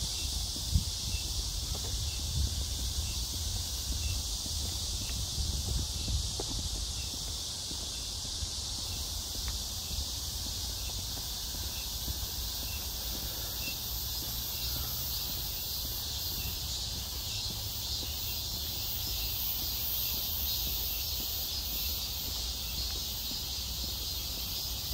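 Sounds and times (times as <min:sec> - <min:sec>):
insects chorus: 0:00.0 - 0:24.9.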